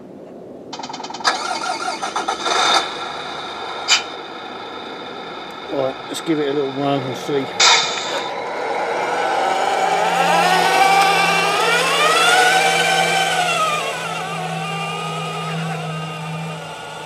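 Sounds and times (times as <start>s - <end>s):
toy truck motor whirring: 0.8s - 17.0s
steady low hum: 2.0s - 17.0s.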